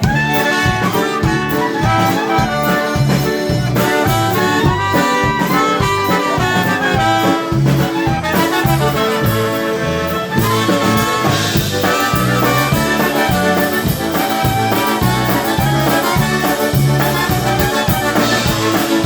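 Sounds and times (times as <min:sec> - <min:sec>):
accordion melody: 0:00.0 - 0:19.0
brass instruments: 0:00.0 - 0:19.0
pulsing bass beat: 0:00.0 - 0:19.0.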